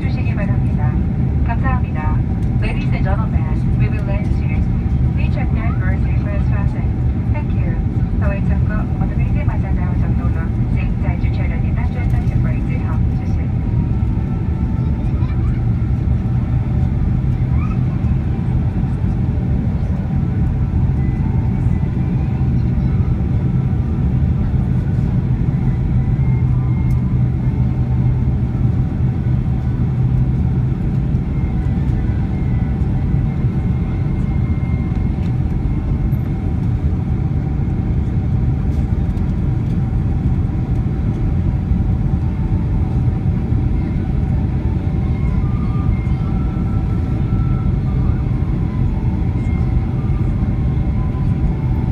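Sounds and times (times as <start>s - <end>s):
airliner engines droning: 0.0s - 51.9s
low hum: 0.0s - 51.9s.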